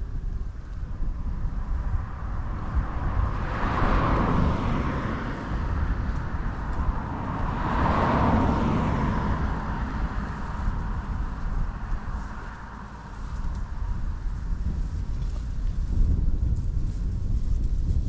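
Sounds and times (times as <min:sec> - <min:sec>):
steady low rumble: 0:00.0 - 0:18.0
vehicles passing: 0:00.0 - 0:18.0.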